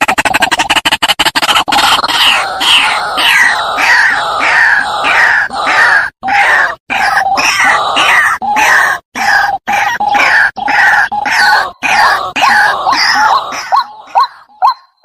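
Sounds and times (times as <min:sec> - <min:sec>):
waterhen calling harsh notes: 0:01.4 - 0:14.9.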